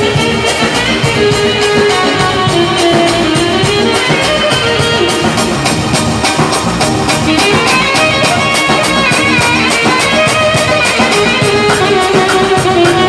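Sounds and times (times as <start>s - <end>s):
drum kit beat: 0.0s - 13.0s
electronic keyboard melody: 0.0s - 13.0s.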